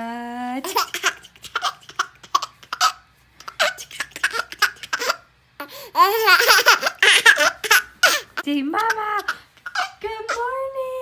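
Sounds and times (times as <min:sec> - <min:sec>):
small child laughing: 0:00.6 - 0:05.2, 0:06.0 - 0:10.4.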